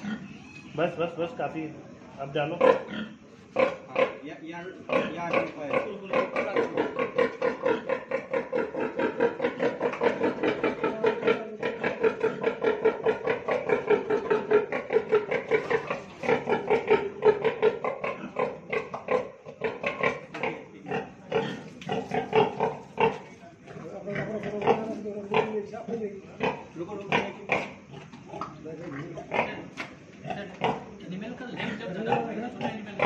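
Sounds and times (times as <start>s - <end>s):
pig grunting: 0.0s - 0.9s, 2.4s - 4.2s, 4.8s - 33.0s.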